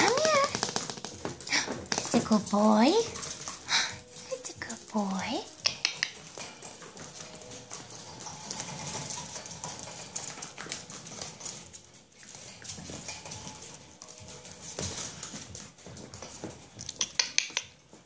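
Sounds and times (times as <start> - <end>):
puppies scampering on floor: 0.0 - 18.0.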